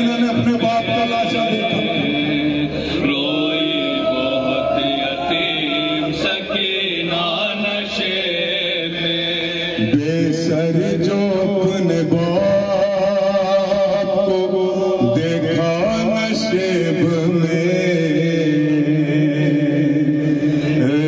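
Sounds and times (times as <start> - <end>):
man chanting a lament: 0.0 - 21.0.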